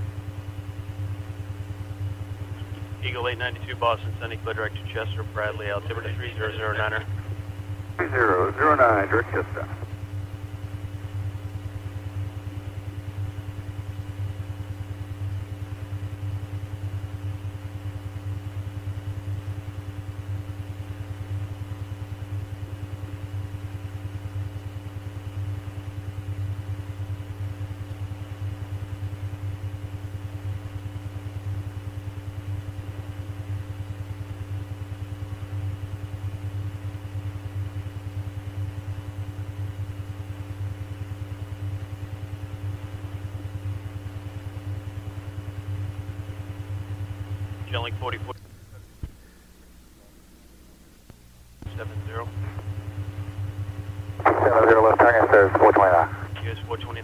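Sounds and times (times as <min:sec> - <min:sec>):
electrical hum and buzz: 0:00.0 - 0:57.0.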